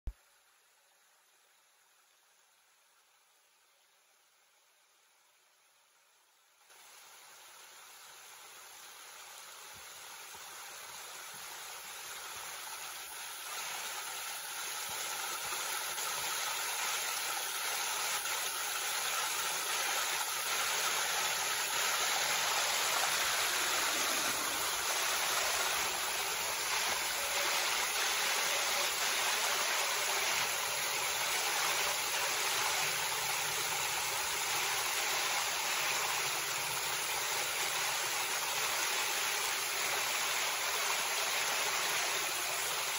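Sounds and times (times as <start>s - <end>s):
creek water rushing over rocks: 6.7s - 42.9s.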